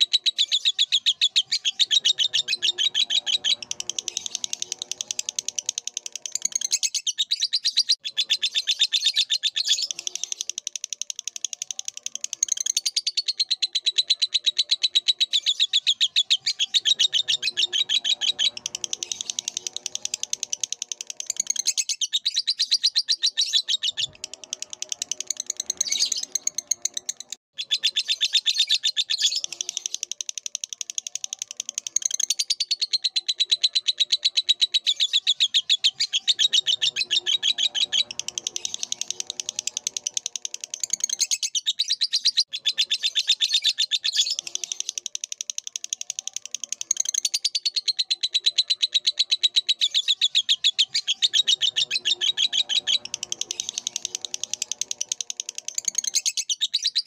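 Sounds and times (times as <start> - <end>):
lovebird chattering song: 0.0 - 57.0.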